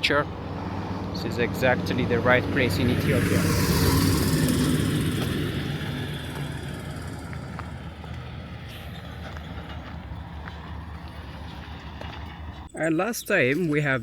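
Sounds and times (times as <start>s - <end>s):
vehicle passing by: 0.0s - 12.7s
low traffic rumble: 0.0s - 14.0s.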